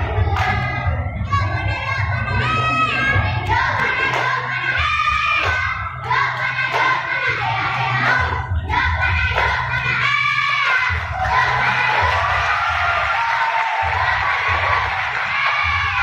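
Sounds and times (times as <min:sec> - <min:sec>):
girls singing a chant in unison: 0:00.0 - 0:16.0.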